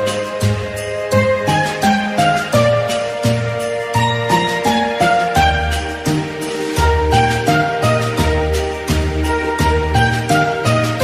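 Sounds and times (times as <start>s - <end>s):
upbeat christmas-style music: 0.0s - 11.0s.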